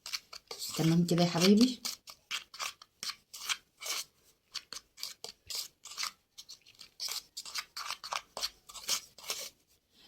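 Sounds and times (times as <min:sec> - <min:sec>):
spoon scraping dry powder: 0:00.0 - 0:09.8.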